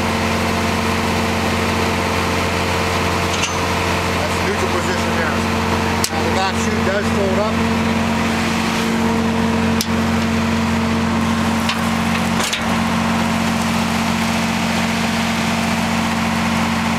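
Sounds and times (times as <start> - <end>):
chipper engine running: 0.0 - 16.9.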